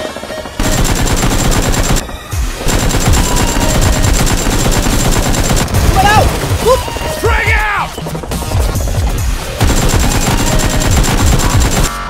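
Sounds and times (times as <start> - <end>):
rapid automatic gunfire: 0.0 - 6.8, 8.7 - 12.0.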